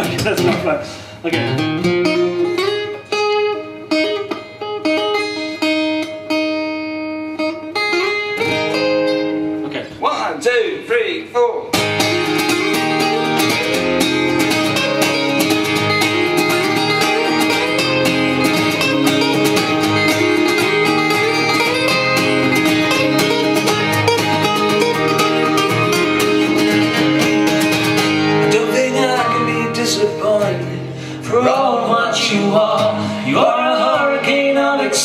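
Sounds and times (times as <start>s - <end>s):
strummed and picked guitars: 0.0s - 10.0s, 11.6s - 35.0s.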